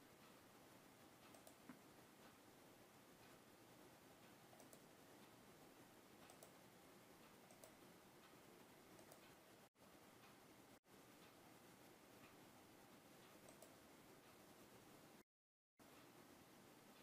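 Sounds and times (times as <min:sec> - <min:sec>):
faint steady hiss: 0:00.0 - 0:15.2, 0:15.8 - 0:17.0.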